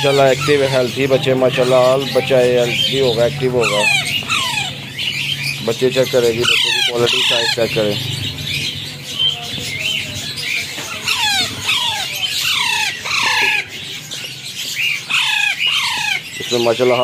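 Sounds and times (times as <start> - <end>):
parakeet chicks squawking: 0.0 - 17.0.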